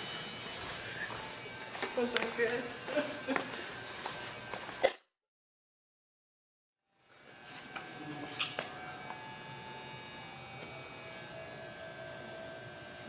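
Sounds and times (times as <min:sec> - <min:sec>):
buzzing drone of held tones: 0:00.0 - 0:05.0, 0:06.9 - 0:13.0.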